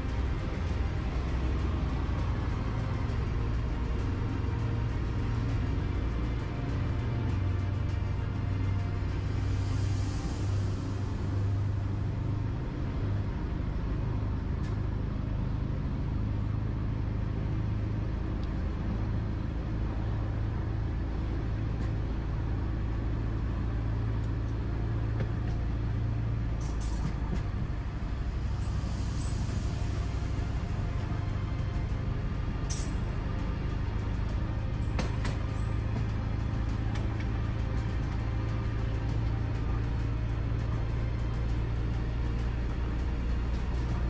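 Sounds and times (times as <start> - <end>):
locomotive engine hum: 0.0 - 44.0.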